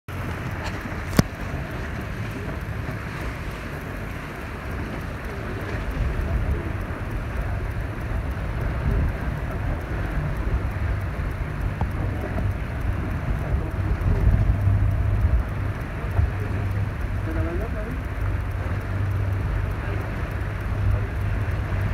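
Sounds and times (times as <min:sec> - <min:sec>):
motorboat engine drone: 0:00.1 - 0:21.9
water rushing past hull: 0:00.1 - 0:21.9
wind rumbling on microphone: 0:00.1 - 0:21.9.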